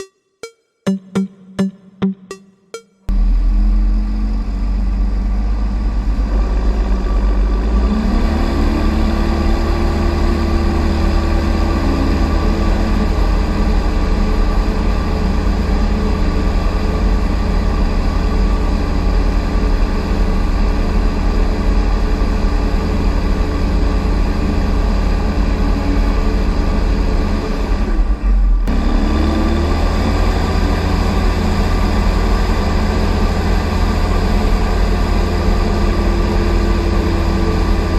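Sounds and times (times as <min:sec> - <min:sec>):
tractor diesel engine revving: 0:03.1 - 0:37.9.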